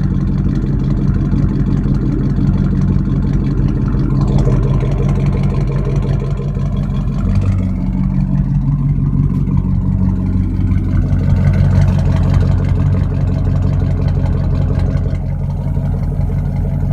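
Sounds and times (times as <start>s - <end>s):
engine idling with exhaust drone: 0.0s - 16.9s.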